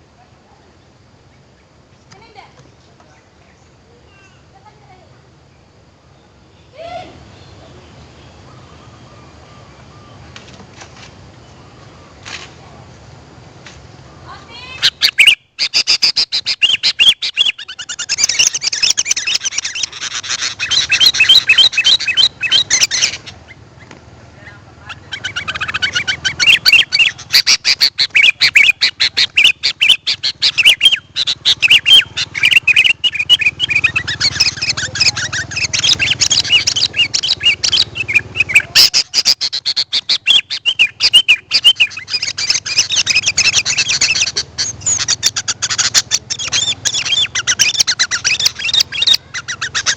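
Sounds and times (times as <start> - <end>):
bulbul chirping and singing: 0.7 - 10.6, 13.9 - 49.9.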